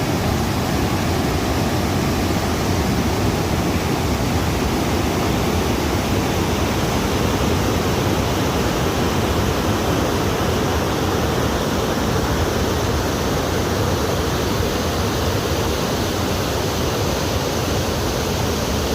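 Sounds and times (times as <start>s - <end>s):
stream of water rushing: 0.0s - 18.9s.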